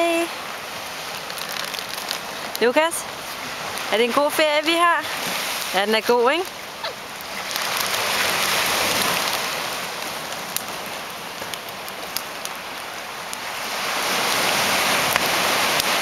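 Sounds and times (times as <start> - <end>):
ocean surf washing ashore: 0.0 - 16.0
sharp crackles: 0.8 - 4.5, 5.1 - 16.0.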